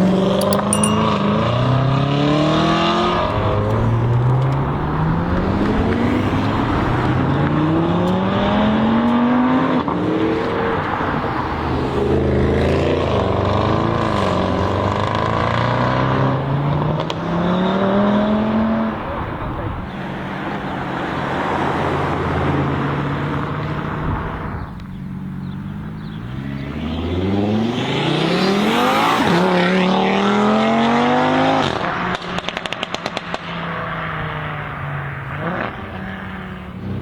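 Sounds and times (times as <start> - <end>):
car engine accelerating hard: 1.1 - 24.6, 25.4 - 37.0.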